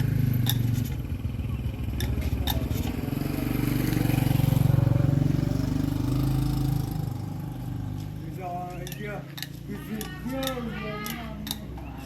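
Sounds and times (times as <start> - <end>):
engine running with low pulsing: 0.0 - 9.8.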